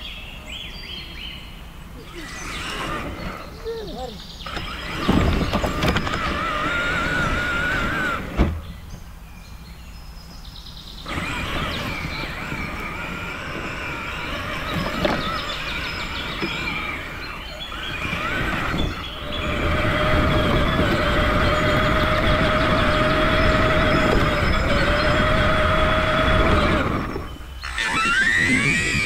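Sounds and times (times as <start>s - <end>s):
tyres rumbling on rough ground: 1.8s - 29.0s
rc truck motor whining: 1.9s - 9.0s, 10.9s - 29.0s.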